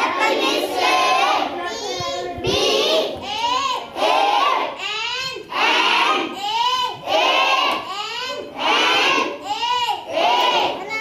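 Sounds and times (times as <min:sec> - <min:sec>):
children chanting together: 0:00.0 - 0:11.0.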